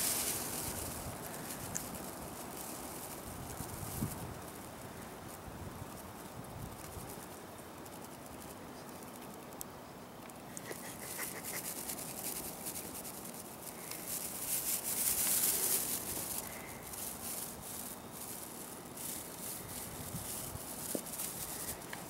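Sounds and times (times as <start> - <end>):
rustling and scratching: 0.0 - 22.0.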